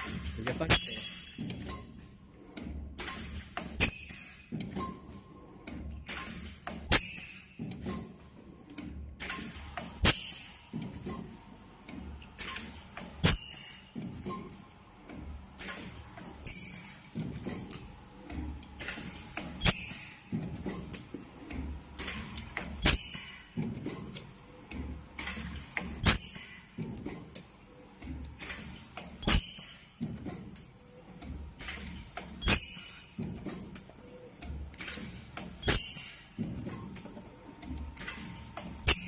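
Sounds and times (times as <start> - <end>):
welding machine clack: 0.0 - 5.2, 5.8 - 8.3, 9.2 - 11.4, 12.3 - 14.6, 15.6 - 27.5, 28.2 - 30.7, 31.6 - 34.0, 34.7 - 39.0
machine clicks and knocks: 0.0 - 39.0.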